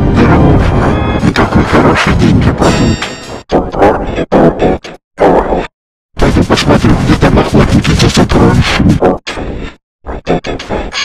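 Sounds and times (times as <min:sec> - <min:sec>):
distorted cartoon voice: 0:00.0 - 0:02.6, 0:03.5 - 0:09.4, 0:10.1 - 0:11.0.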